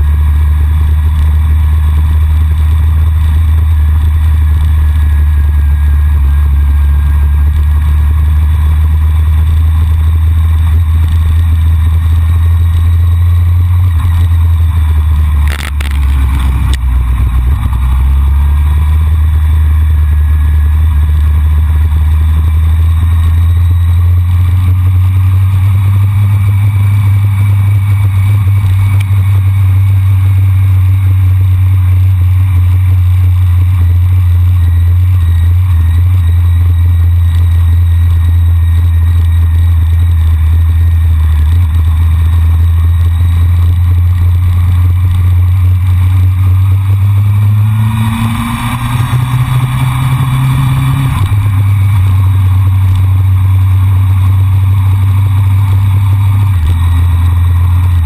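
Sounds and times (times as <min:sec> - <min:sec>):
motorcycle engine drone: 0:00.0 - 0:58.0.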